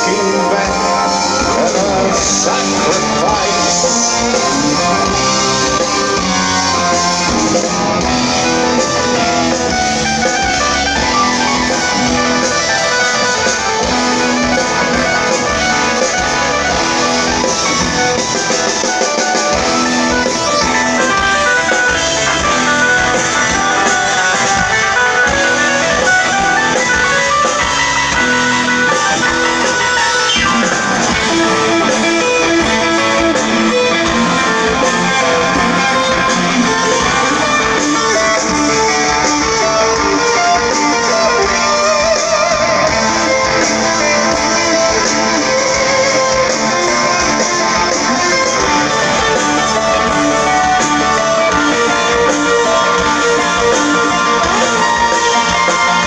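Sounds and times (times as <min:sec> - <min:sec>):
rock band playing instrumental: 0:00.0 - 0:56.0.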